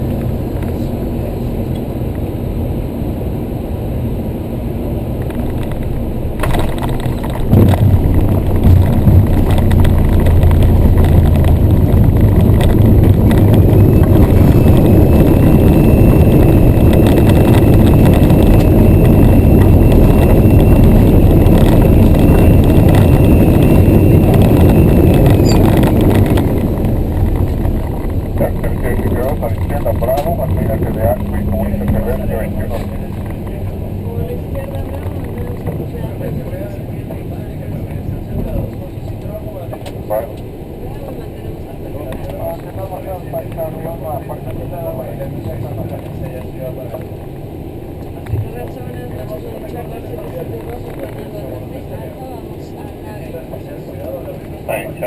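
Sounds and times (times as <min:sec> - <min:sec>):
deep rumble of runway rollout: 0:00.0 - 0:55.0.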